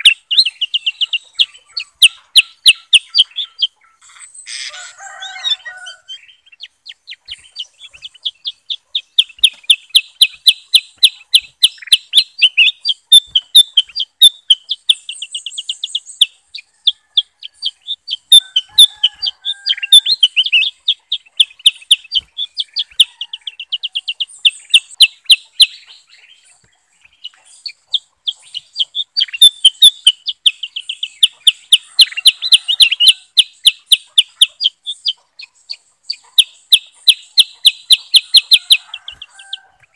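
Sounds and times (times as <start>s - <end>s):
bulbuls chirping: 0.0s - 39.9s.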